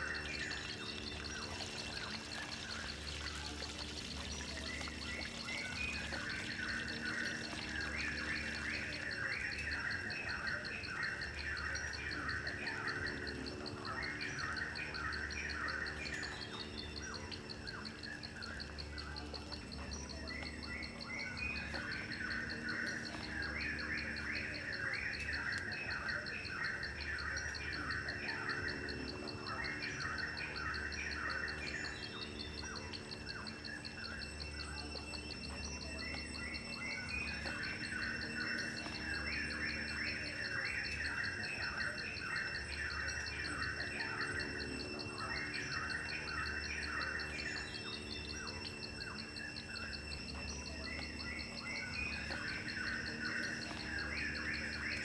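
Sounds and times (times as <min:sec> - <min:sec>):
birds chirping: 0:00.0 - 0:55.0
insect trill: 0:00.0 - 0:55.0.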